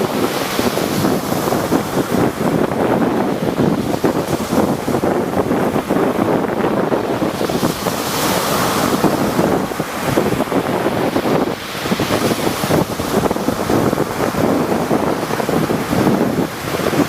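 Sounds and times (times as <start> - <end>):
waves breaking: 0.0 - 17.0
wind buffeting microphone: 0.0 - 17.0.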